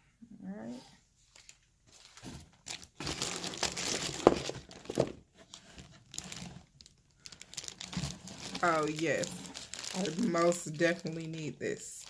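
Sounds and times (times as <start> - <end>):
packaging crinkling: 1.3 - 12.0.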